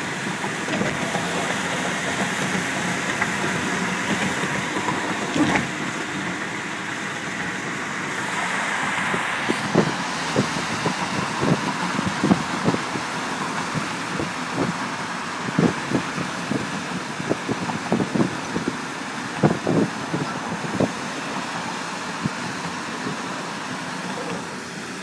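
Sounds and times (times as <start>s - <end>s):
car road noise: 0.0s - 25.0s.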